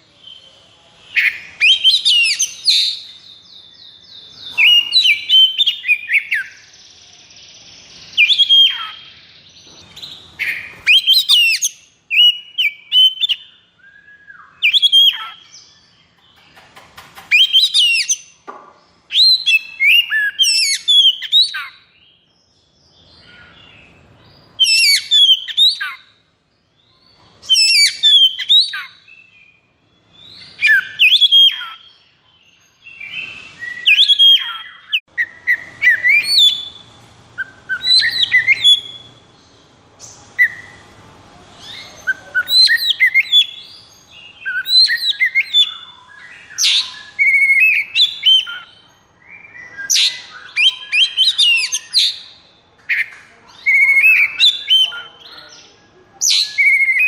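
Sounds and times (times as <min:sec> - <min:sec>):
bird singing whistled notes: 0:00.0 - 0:16.4, 0:17.3 - 0:18.4, 0:19.1 - 0:26.2, 0:26.8 - 0:40.8, 0:41.6 - 0:55.5, 0:56.2 - 0:57.0.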